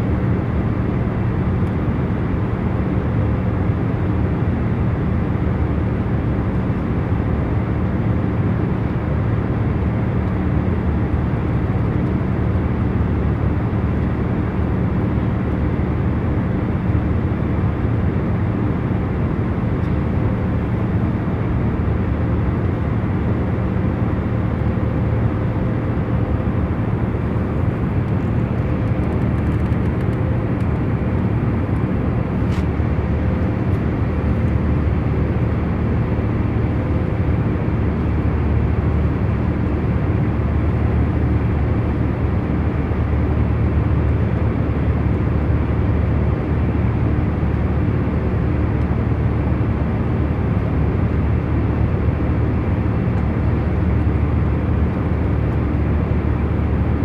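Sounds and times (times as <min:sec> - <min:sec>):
airliner cabin rumble: 0:00.0 - 0:57.0
faint engine drone: 0:00.0 - 0:57.0.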